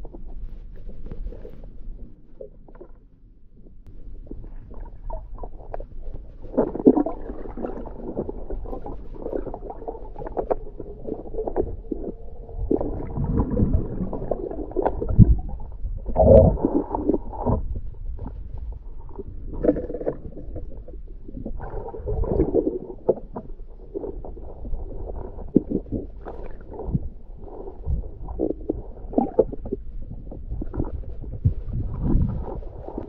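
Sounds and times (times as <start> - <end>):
underwater water sloshing and bubbling: 0.0 - 33.0.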